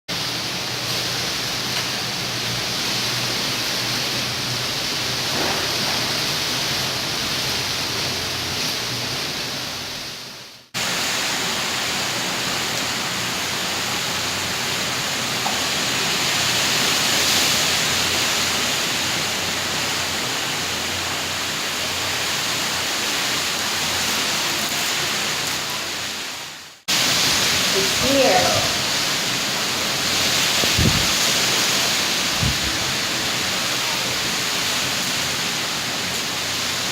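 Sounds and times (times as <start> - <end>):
rain and wind hiss: 0.1 - 36.9.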